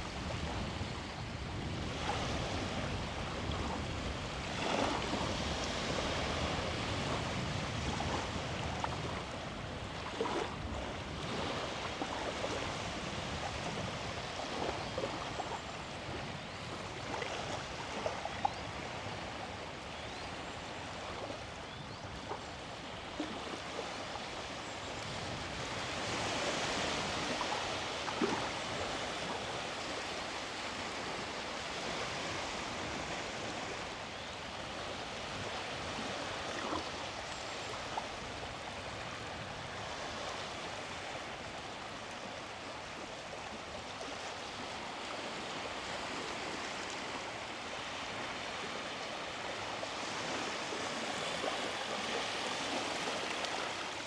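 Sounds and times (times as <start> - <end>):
small waves washing onto beach: 0.0 - 54.0.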